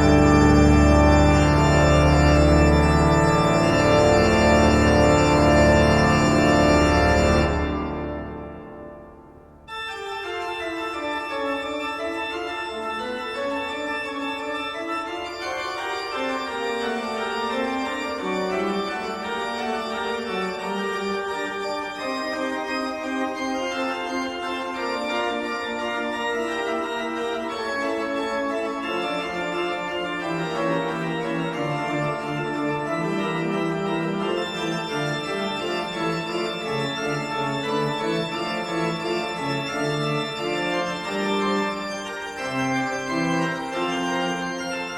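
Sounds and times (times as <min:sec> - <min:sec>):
organ chords: 0:00.0 - 0:44.9.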